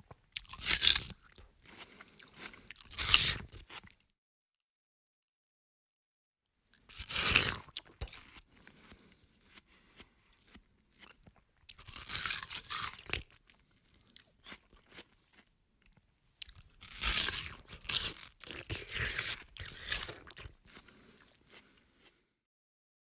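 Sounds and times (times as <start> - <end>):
person chewing watermelon: 0.1 - 4.0, 6.7 - 22.3.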